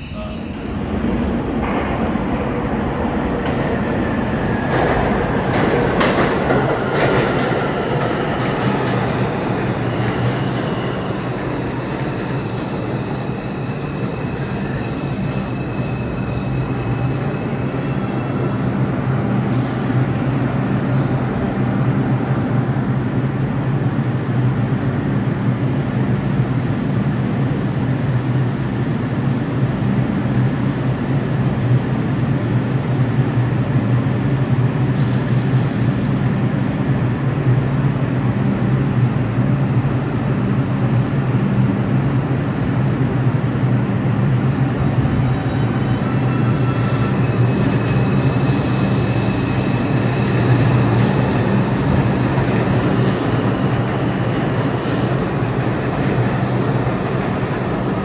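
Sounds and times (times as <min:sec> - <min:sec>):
rumble of train cars: 0:00.0 - 0:58.0
subway train humming: 0:00.0 - 0:58.0.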